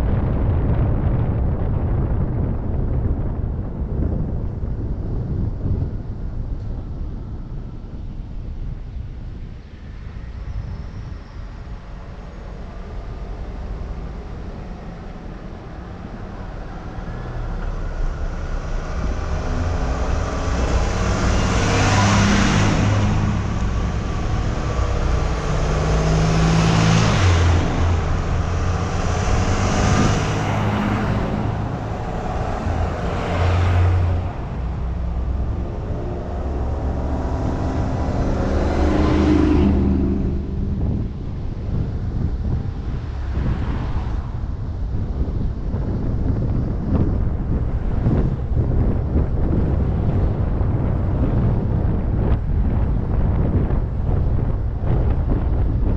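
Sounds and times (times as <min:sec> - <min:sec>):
car engine while driving: 0:00.0 - 0:55.9
road and wind noise: 0:00.0 - 0:55.9.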